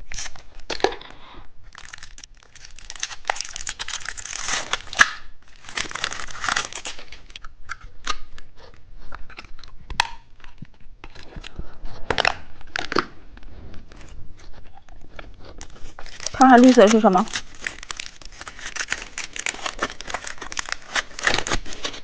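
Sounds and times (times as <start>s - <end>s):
plastic wrapper tearing and crinkling: 0.0s - 22.0s.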